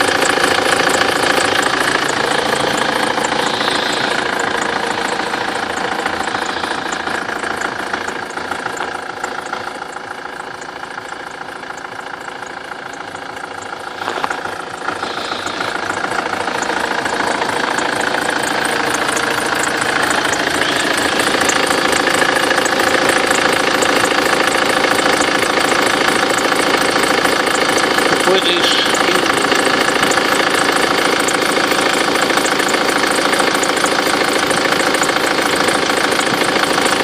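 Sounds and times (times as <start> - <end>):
diesel engine idling clatter: 0.0 - 37.0
drive belt whistling: 0.0 - 37.0
short engine knock: 0.0 - 37.0.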